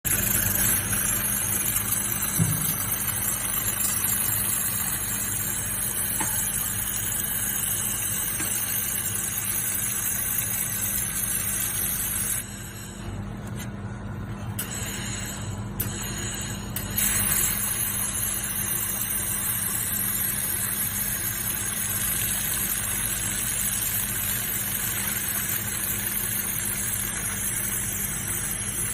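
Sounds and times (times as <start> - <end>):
welding machine hum: 0.0 - 28.9.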